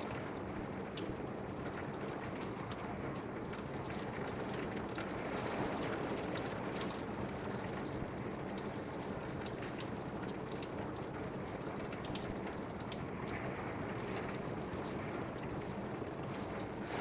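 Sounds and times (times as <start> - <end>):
raindrop ticks: 0.0 - 17.0
torrential rain pouring: 0.0 - 17.0.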